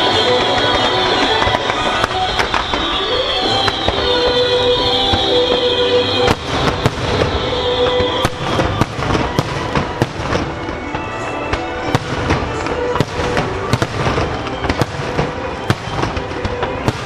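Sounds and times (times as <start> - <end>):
firework shells bursting: 0.0 - 17.0
music over loudspeakers: 0.0 - 17.0.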